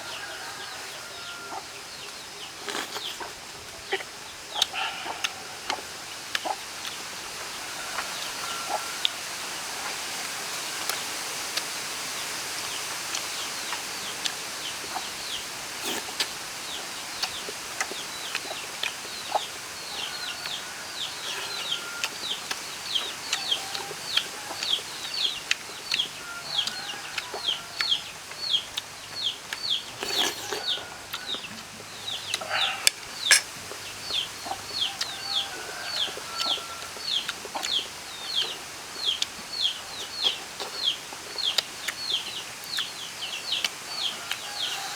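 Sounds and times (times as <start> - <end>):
chicken clucking: 0.0 - 9.2, 13.1 - 44.9
chicks peeping: 0.0 - 11.0, 12.2 - 44.9.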